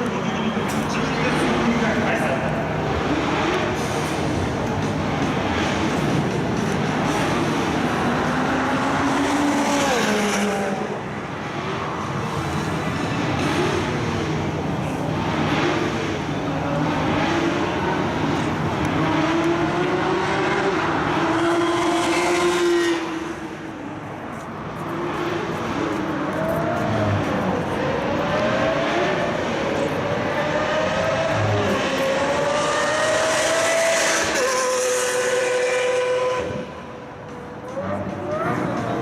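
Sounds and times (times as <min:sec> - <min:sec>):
car engines revving past: 0:00.0 - 0:39.0.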